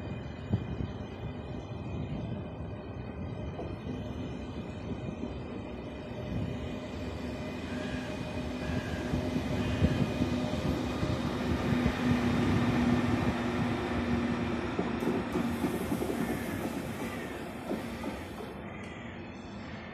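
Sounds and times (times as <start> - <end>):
train wheels rumbling on rails: 0.0 - 19.0
electric locomotive hum: 0.0 - 19.9.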